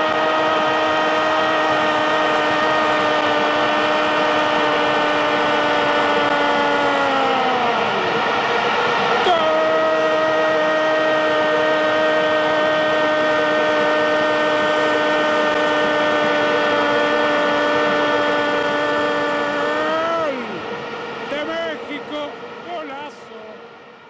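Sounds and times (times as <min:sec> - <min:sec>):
commentator shouting long goal cry: 0:00.0 - 0:08.0, 0:09.2 - 0:20.6
stadium crowd noise: 0:00.0 - 0:24.0.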